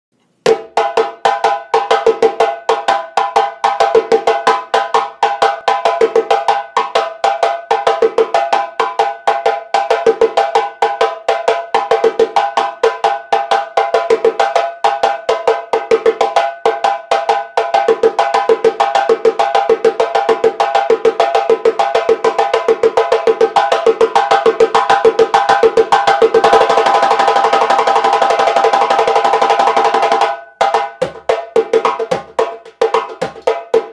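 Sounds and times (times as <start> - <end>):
djembe played with bare hands: 0.4 - 33.9.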